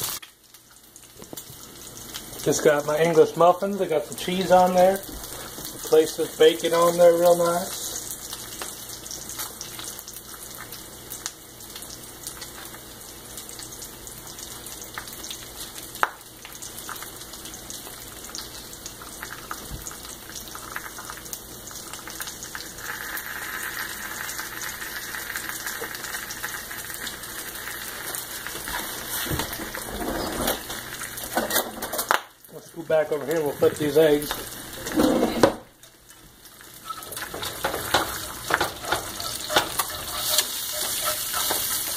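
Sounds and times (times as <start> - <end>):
eggs sizzling in skillet: 0.0 - 41.9.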